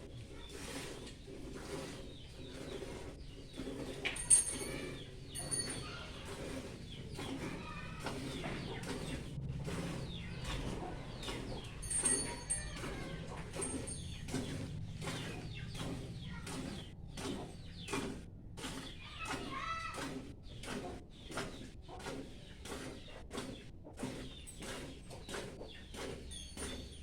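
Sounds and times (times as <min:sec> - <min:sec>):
birds clucking: 0:01.8 - 0:27.0.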